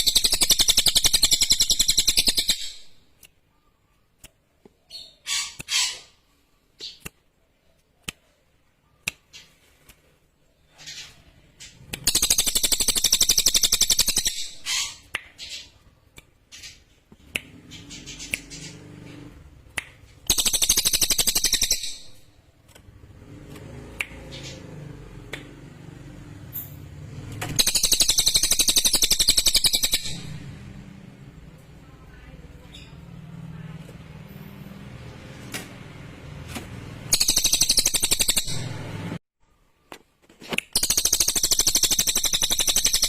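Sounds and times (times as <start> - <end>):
bird chirps: 0.0 - 9.7, 10.4 - 23.1, 25.9 - 33.7, 37.0 - 39.8, 40.7 - 43.0.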